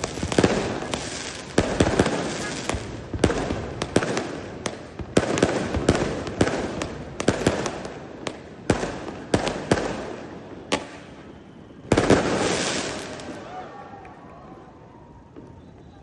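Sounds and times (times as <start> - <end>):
fireworks and firecrackers banging: 0.0 - 16.0.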